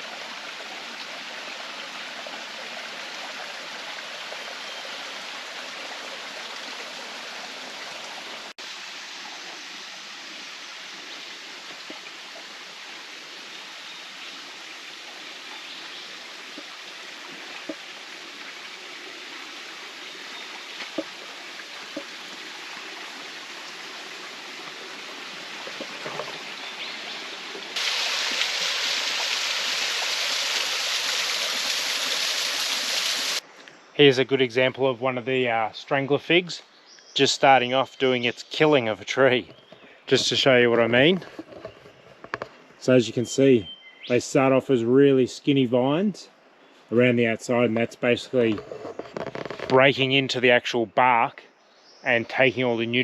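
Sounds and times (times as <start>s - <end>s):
creek water running: 0.0s - 51.3s.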